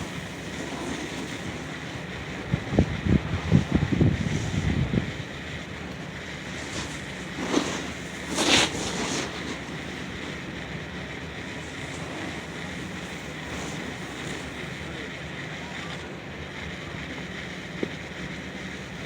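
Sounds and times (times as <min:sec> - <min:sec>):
outdoor ambient noise: 0:00.0 - 0:19.0.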